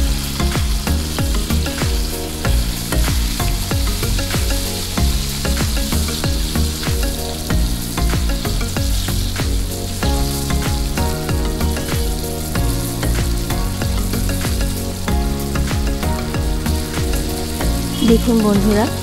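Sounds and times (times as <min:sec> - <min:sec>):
background music with held notes: 0:00.0 - 0:19.0
chicken deep-frying in oil: 0:00.0 - 0:19.0.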